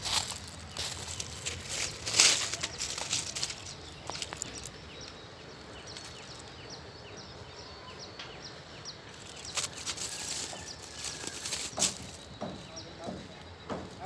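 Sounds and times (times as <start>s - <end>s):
outdoor background noise: 0.0s - 14.0s
small bird chirping: 0.0s - 14.0s.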